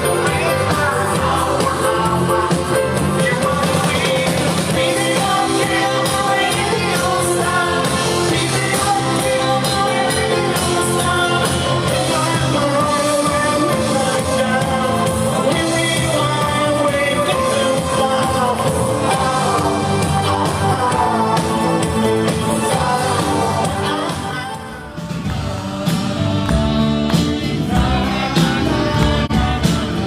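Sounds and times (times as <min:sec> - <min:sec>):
live band with lead singer: 0:00.0 - 0:30.0.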